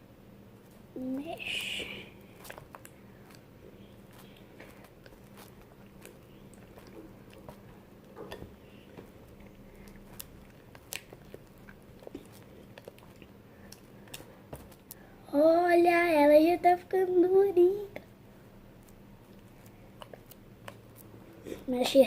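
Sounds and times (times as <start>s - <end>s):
sticky slime squelches: 0.6s - 15.2s, 18.7s - 22.0s.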